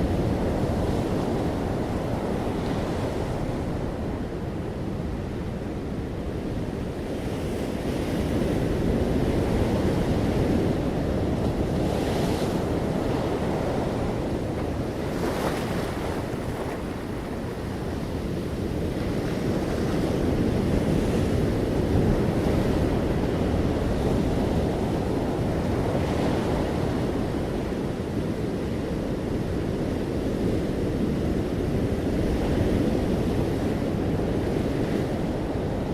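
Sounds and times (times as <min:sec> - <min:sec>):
ocean waves breaking on shore: 0:00.0 - 0:35.9.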